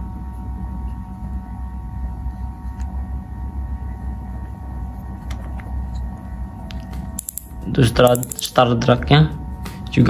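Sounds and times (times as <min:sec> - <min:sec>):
faint even hum: 0:00.0 - 0:10.0.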